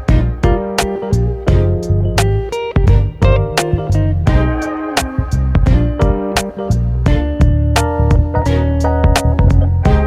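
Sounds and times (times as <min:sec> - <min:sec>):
upbeat guitar music: 0:00.0 - 0:10.0.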